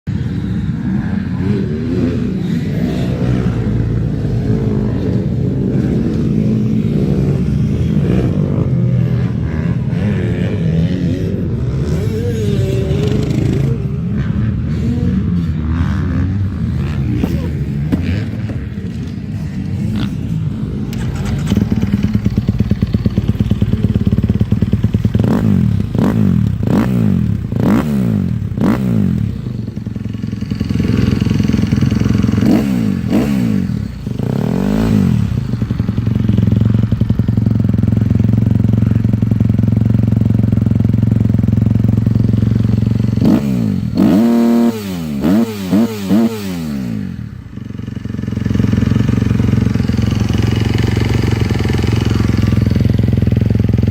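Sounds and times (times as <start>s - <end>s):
motorcycle engine revving: 0.1s - 53.9s.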